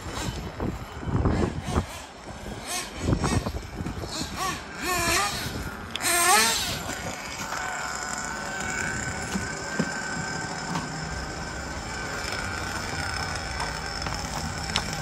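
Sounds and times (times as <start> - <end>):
rc car engine whining: 0.0 - 15.0.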